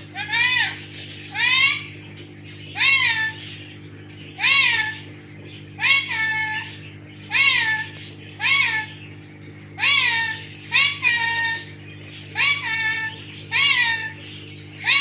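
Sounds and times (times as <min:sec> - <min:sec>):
parrot meow-like calls: 0:00.0 - 0:02.0, 0:02.7 - 0:03.6, 0:04.4 - 0:05.1, 0:05.8 - 0:09.0, 0:09.8 - 0:15.0.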